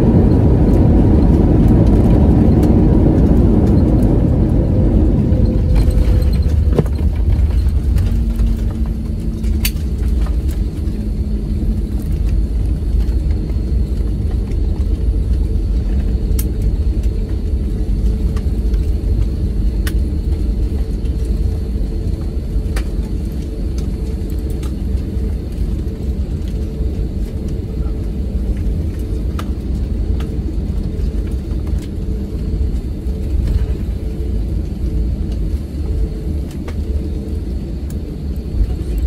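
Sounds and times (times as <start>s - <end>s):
jet engines idling: 0.0s - 39.0s
low rumble of wheels: 0.0s - 39.0s.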